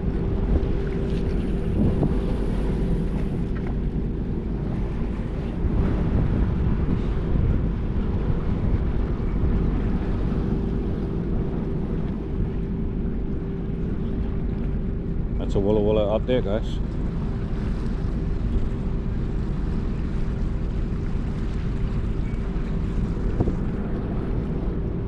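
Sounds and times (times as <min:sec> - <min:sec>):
constant droning hum: 0:00.0 - 0:25.0
wind buffeting microphone: 0:00.0 - 0:25.0.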